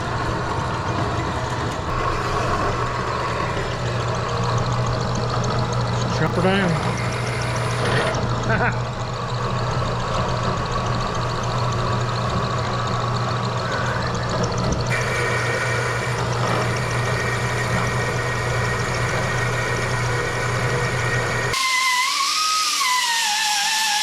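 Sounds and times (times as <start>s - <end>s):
band saw cutting metal: 1.6s - 8.6s, 10.1s - 24.0s.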